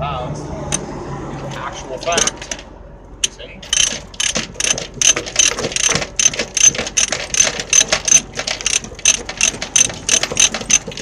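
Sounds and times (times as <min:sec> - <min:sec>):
ratchet binder pawl clicking: 0:02.0 - 0:11.0.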